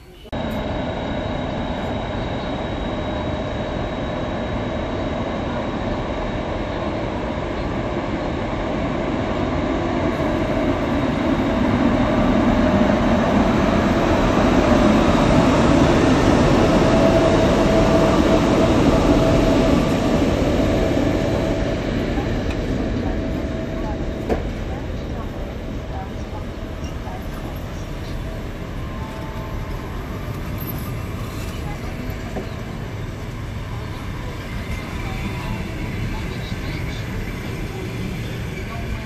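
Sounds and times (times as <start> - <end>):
electric train rumbling: 0.0 - 39.0
faint train whine: 0.0 - 39.0.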